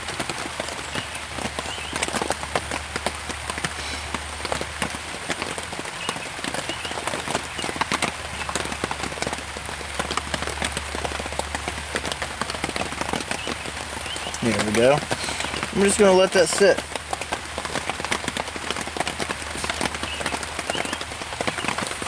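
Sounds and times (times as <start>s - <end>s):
rain pattering on a tarp: 0.0s - 22.0s.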